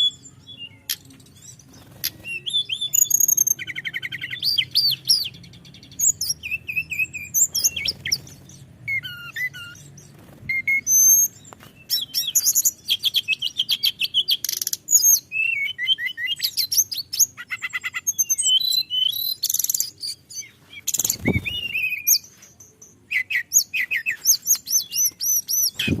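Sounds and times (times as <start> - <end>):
bird singing trills and whistles: 0.0 - 26.0.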